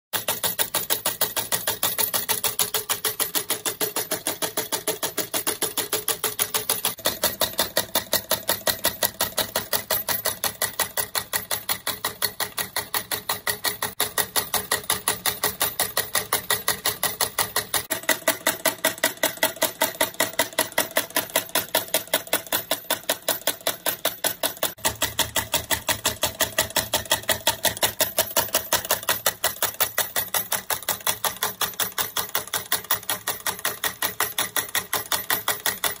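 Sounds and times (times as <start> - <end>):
solenoid engine clacking: 0.2 - 36.0.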